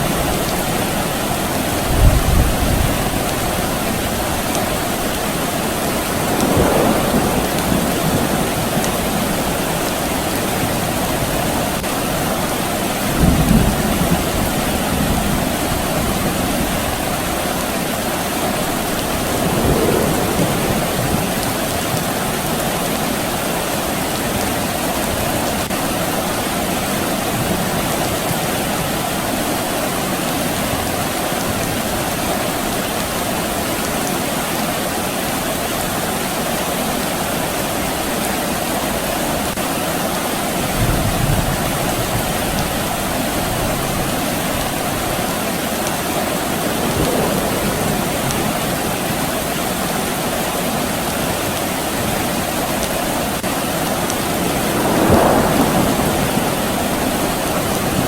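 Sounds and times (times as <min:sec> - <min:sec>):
soft rain hiss: 0:00.0 - 0:58.0.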